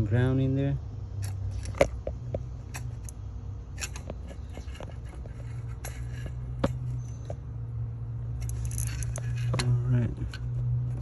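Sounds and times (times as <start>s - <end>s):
steady low hum: 0.0s - 11.0s
hand tools clicking and scraping: 1.2s - 7.4s, 8.3s - 11.0s.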